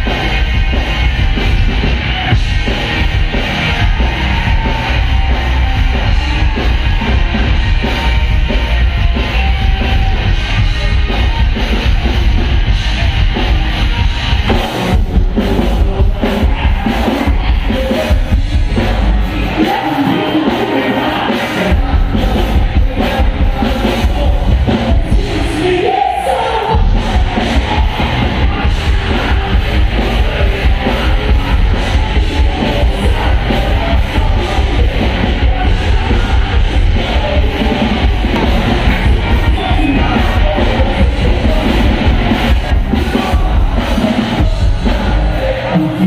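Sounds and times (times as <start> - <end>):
drum kit: 0.0 - 26.0, 26.7 - 46.0
bass guitar: 0.0 - 46.0
electric guitars: 0.0 - 46.0
person singing: 0.0 - 46.0.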